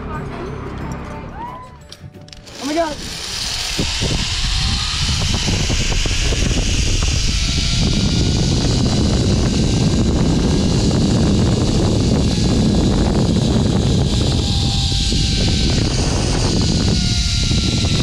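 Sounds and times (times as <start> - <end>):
zip line trolley whirring: 2.3 - 18.0
wind buffeting microphone: 2.5 - 18.0.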